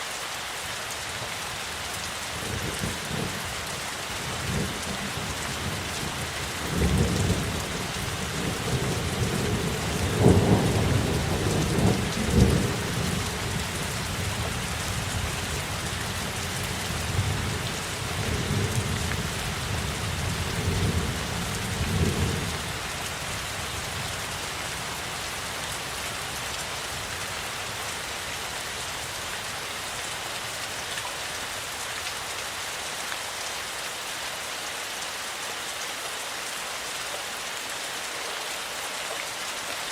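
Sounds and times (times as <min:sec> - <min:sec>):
rain hissing: 0:00.0 - 0:36.0.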